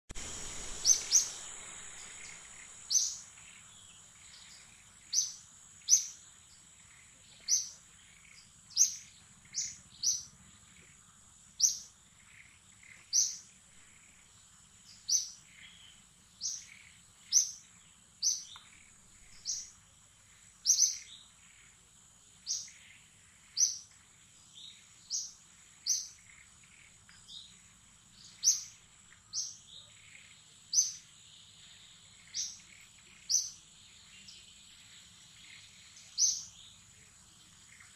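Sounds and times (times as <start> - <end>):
bird chirping: 0.1 - 37.9
faint high-pitched whine: 0.1 - 37.9.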